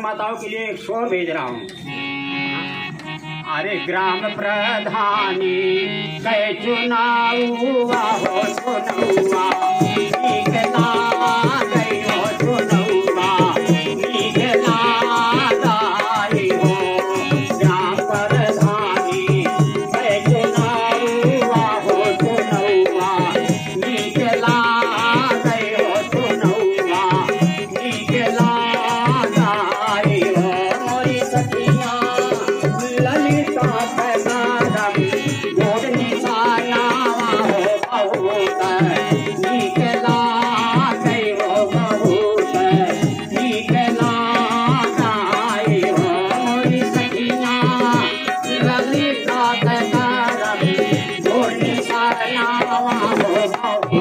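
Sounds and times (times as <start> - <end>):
man singing into a microphone: 0.0 - 54.0.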